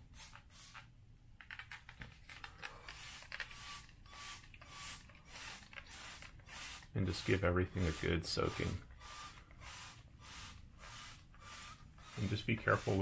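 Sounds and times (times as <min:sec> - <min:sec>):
spray bottle hissing: 0:00.1 - 0:00.9, 0:03.0 - 0:13.0.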